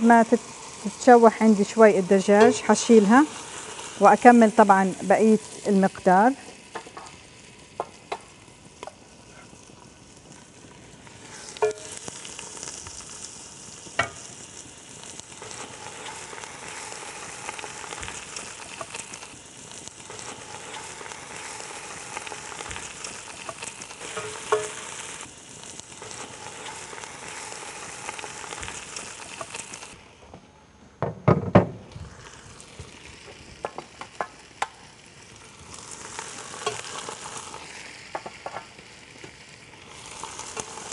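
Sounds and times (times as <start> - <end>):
chicken sizzling in oil: 0.0 - 30.2, 32.0 - 40.9.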